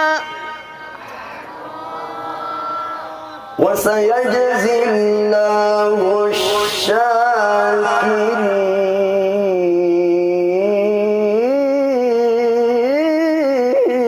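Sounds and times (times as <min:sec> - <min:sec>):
man reciting melodically: 0:00.0 - 0:01.2, 0:03.5 - 0:14.0.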